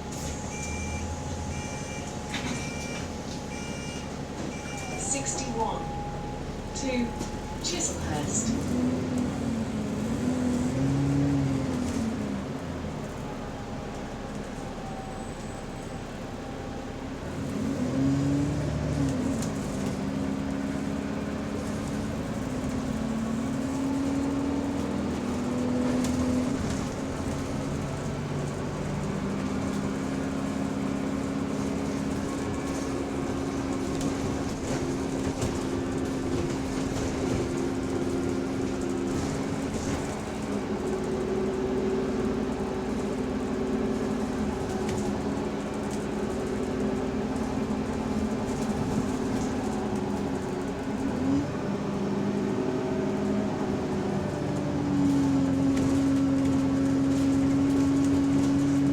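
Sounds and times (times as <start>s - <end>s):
bus engine and transmission running: 0.0s - 58.9s.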